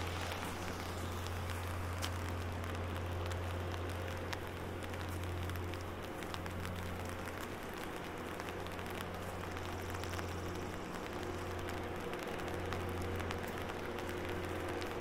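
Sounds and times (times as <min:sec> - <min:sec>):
rain pattering on umbrella: 0:00.0 - 0:15.0
steady low hum: 0:00.0 - 0:15.0.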